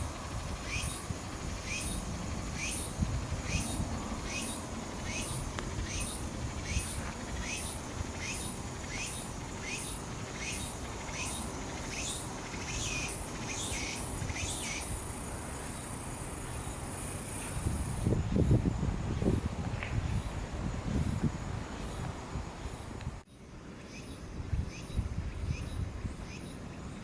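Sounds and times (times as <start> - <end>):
insect chirping and buzzing: 0.0 - 27.0.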